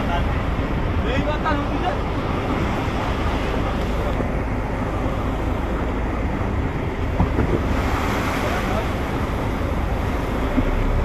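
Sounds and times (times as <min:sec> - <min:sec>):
boat engine running: 0:00.0 - 0:11.0
waves surging: 0:00.0 - 0:11.0.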